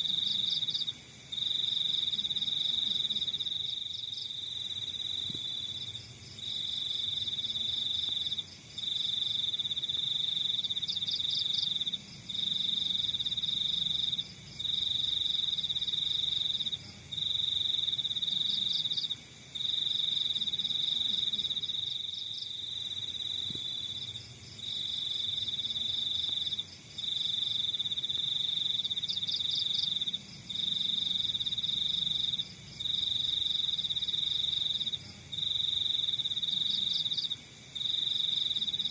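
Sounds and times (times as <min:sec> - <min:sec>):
crickets trilling: 0:00.0 - 0:38.9
insects pulsing chirp: 0:00.0 - 0:38.9.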